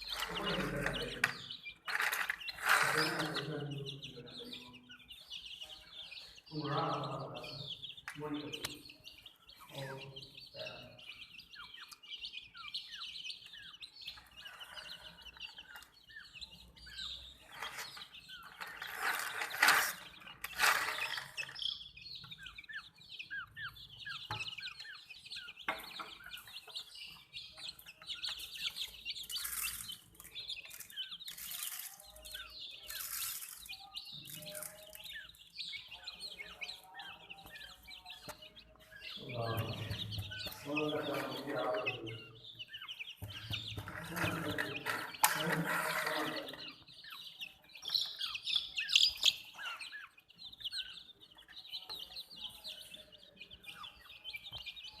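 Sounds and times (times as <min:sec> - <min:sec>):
baby chicks peeping: 0:00.0 - 0:55.0.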